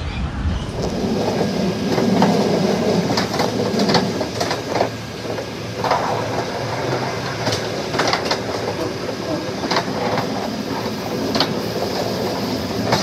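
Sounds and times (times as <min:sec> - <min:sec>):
train rumbling on track: 0:00.0 - 0:13.0
wheels clacking: 0:01.0 - 0:13.0.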